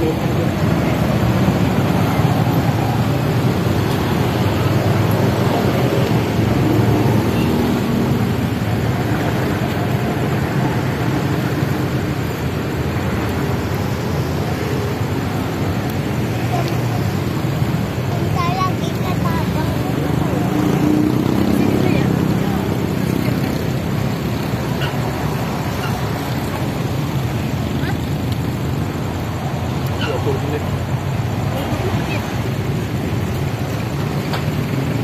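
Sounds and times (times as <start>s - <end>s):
car engines: 0.0s - 35.0s
motorcycle engines: 0.0s - 35.0s
truck engines: 0.0s - 35.0s.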